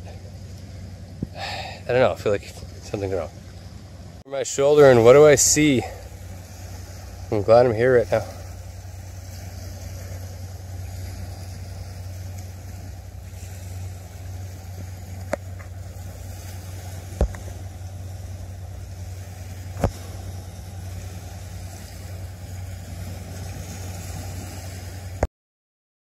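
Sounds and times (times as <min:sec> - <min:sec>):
low engine drone: 0:00.0 - 0:25.3.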